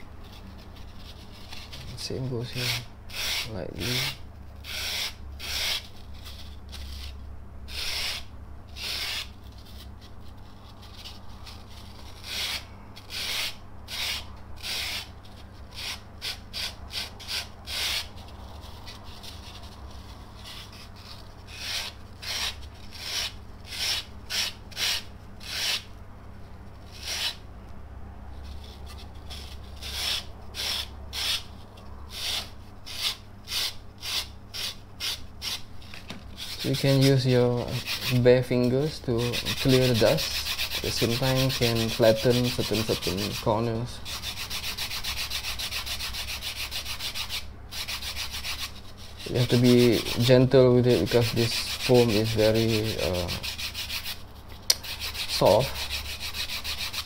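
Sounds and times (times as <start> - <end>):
sandpaper rubbing foam: 0.2 - 25.9, 26.7 - 27.4, 28.4 - 57.0.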